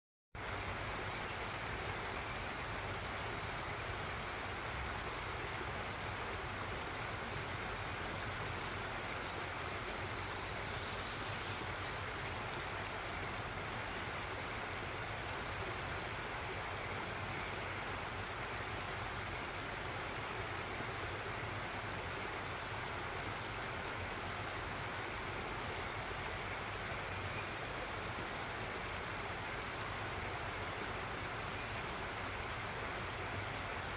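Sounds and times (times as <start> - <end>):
stream flowing over rocks: 0.4 - 33.9.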